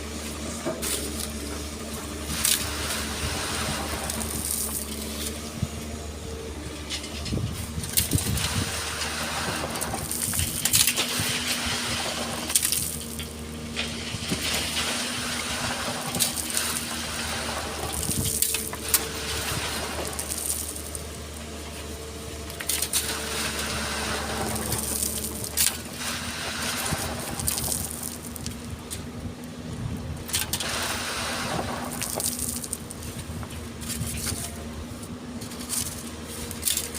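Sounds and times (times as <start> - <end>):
bucket scraping sand and stones: 0.0 - 36.9
diesel engine running: 0.0 - 36.9.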